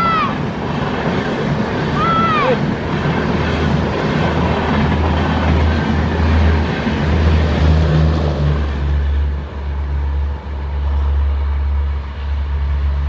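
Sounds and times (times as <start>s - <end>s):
train coaches rushing past: 0.0s - 13.0s.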